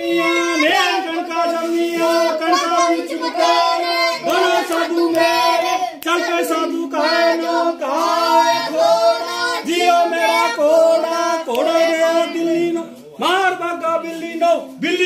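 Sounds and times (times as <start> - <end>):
children chanting folk song: 0.0 - 12.9.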